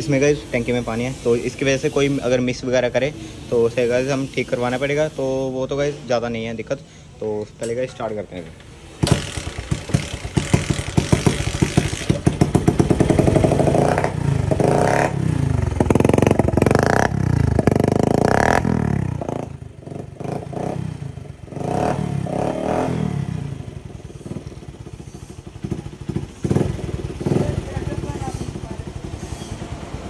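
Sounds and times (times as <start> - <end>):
motorcycle engine revving and idling: 0.0 - 30.0.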